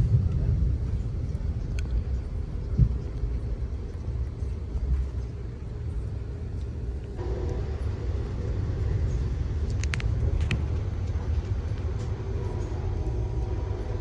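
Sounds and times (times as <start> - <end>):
faint hum: 0.0 - 14.0
train cabin rumble: 0.0 - 14.0.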